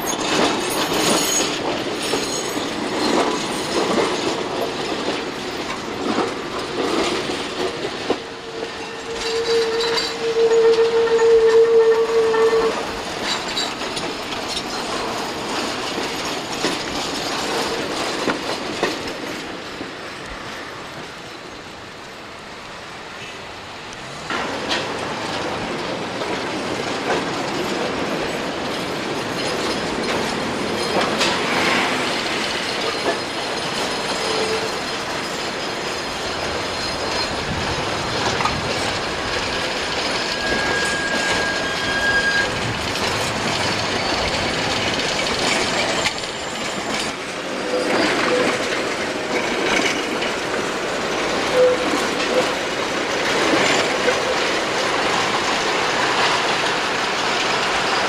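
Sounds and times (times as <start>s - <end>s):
tram wheel squeal: 0.0s - 21.8s, 23.2s - 58.0s
tram wheels rumbling on rails: 0.0s - 58.0s.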